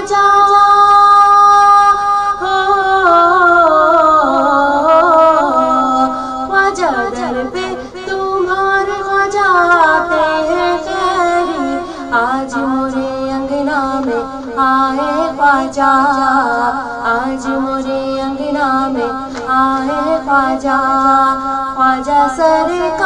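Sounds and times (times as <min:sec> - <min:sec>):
woman singing devotional song: 0:00.0 - 0:23.0.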